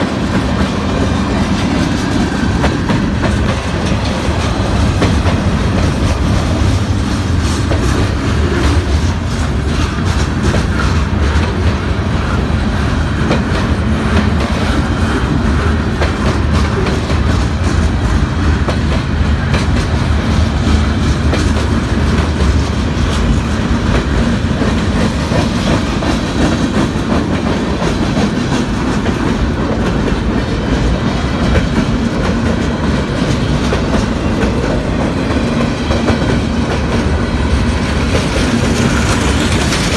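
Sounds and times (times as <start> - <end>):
freight train rumbling past: 0.0 - 39.9
wheels clacking over rail joints: 0.0 - 39.9.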